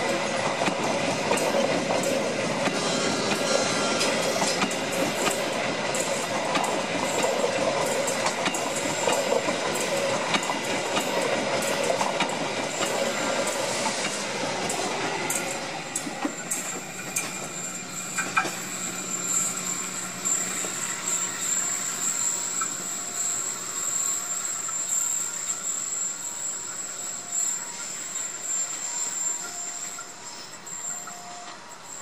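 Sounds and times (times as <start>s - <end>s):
train wheels clicking over rail joints: 0.0s - 31.6s
high wheel squeal: 1.4s - 32.0s.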